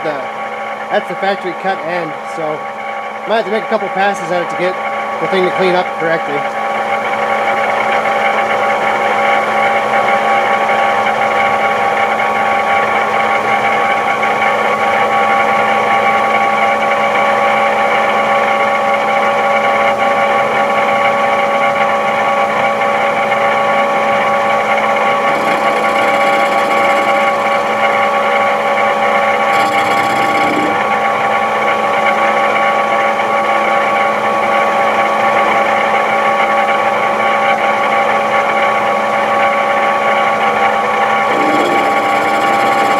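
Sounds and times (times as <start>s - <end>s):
lathe spindle whine: 0.0s - 42.9s.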